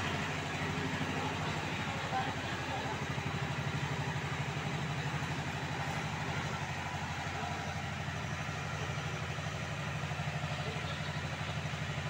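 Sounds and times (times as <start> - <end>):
toy locomotive engine idling: 0.0 - 12.0.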